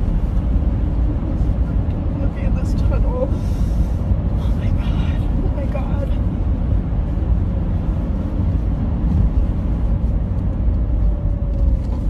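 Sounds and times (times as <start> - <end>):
car driving heard inside cabin: 0.0 - 12.0.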